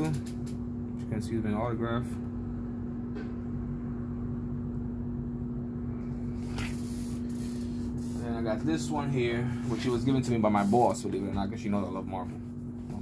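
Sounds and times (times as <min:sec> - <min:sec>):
appliance humming: 0:00.0 - 0:13.0.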